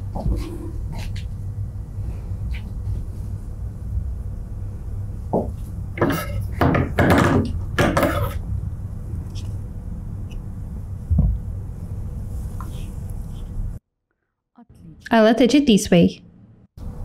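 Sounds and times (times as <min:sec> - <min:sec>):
steady low hum: 0:00.0 - 0:13.8, 0:14.6 - 0:17.0.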